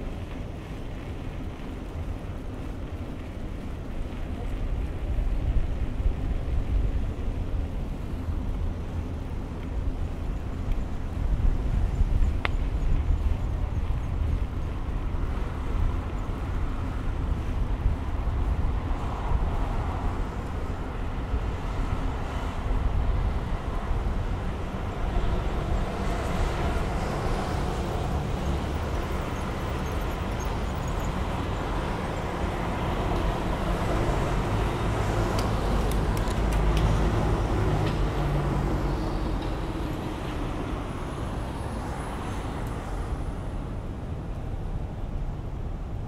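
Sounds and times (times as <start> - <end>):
road traffic passing: 7.6 - 46.0.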